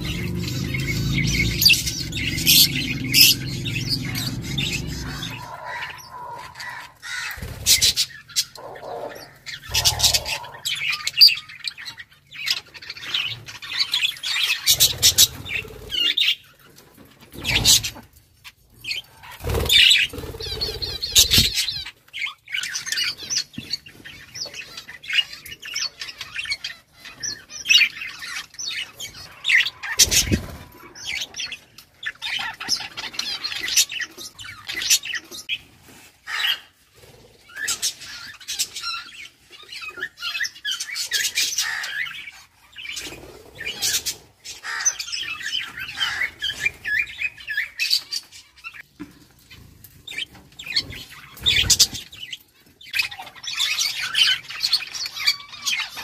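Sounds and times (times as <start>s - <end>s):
budgerigars chirping: 0.0s - 16.5s, 18.8s - 35.6s, 37.5s - 48.8s, 50.1s - 56.0s.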